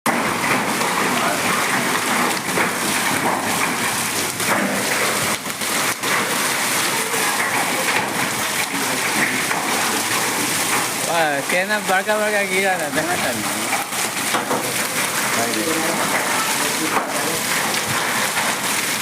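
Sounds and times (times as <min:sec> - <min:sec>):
hail and heavy rain falling: 0:00.1 - 0:19.0.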